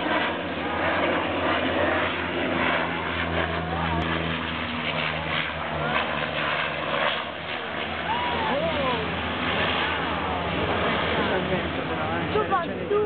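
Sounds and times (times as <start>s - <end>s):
propeller plane flying overhead: 0.0s - 13.0s.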